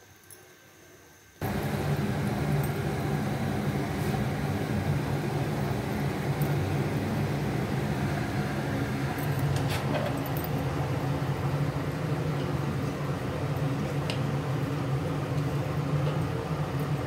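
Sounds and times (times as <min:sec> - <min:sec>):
low hum: 0:01.4 - 0:15.9.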